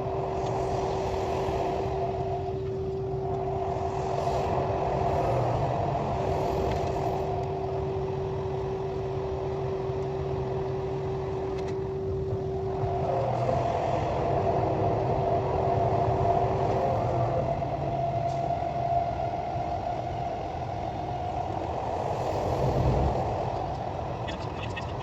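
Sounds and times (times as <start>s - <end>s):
constant whine: 0.0s - 25.0s
train rumble inside carriage: 0.0s - 25.0s.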